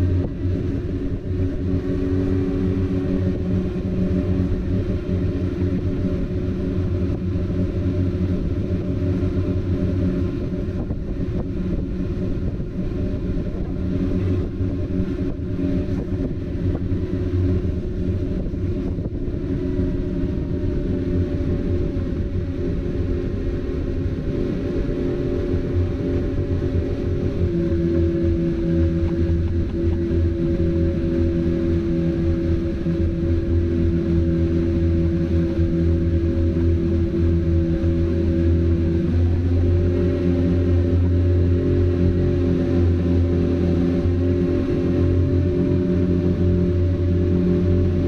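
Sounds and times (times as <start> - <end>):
motorboat engine drone: 0.0 - 48.0.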